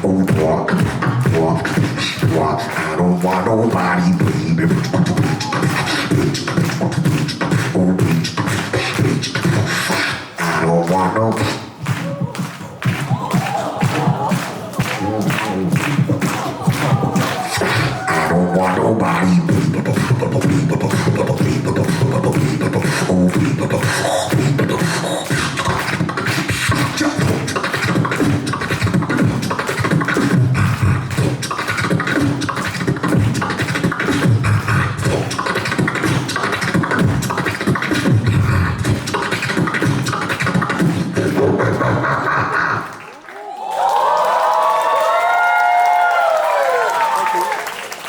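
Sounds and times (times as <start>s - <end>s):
beatboxing through a pa: 0.0s - 43.2s.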